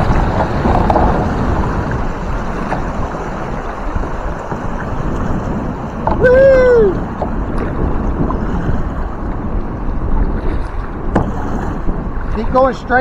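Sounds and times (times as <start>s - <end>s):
fast river water rushing: 0.0s - 13.0s
wind buffeting microphone: 0.0s - 13.0s.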